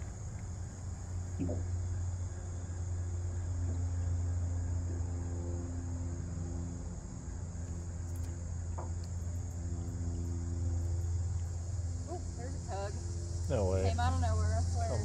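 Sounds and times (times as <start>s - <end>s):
crickets and insects chirping: 0.0s - 15.0s
low mechanical hum: 0.0s - 15.0s.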